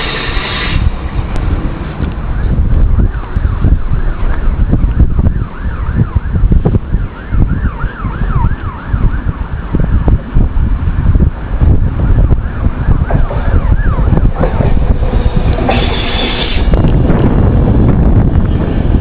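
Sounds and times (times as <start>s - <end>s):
wind buffeting microphone: 0.0s - 19.0s
warbling siren: 2.1s - 19.0s.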